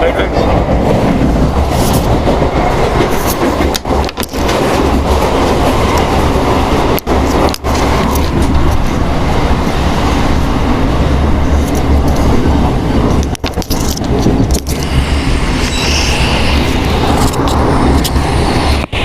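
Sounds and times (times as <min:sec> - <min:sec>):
train carriage rumble and rattle: 0:00.0 - 0:19.0.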